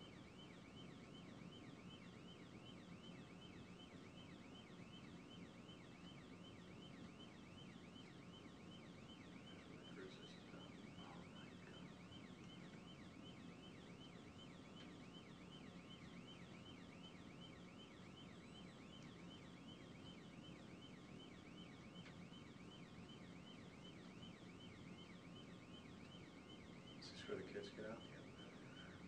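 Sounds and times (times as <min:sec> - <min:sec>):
police siren yelping: 0:00.0 - 0:29.0.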